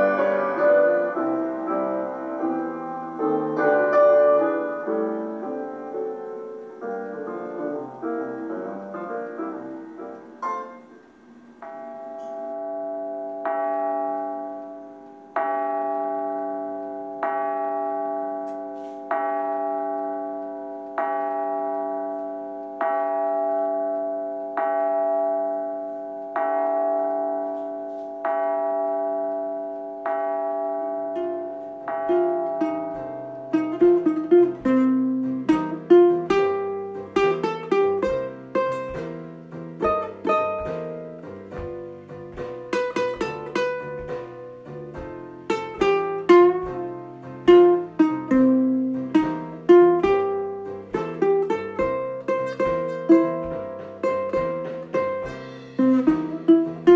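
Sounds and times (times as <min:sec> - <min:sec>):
slow instrumental chords: 0:00.0 - 0:56.9.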